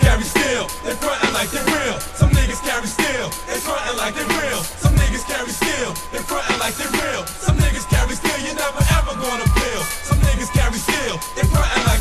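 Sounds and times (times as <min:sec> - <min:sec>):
hip hop beat: 0:00.0 - 0:12.0
person rapping: 0:00.0 - 0:12.0.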